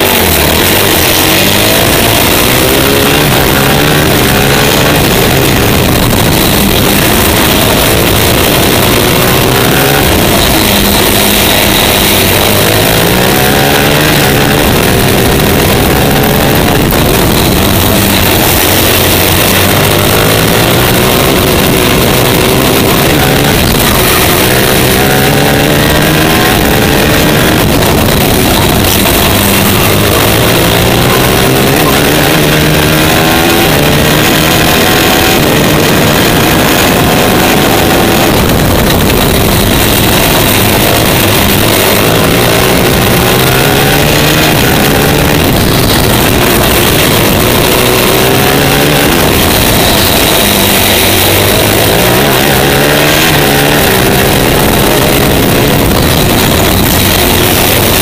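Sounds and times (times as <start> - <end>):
kart engine accelerating: 0.0 - 58.0
wind rush on microphone: 0.0 - 58.0.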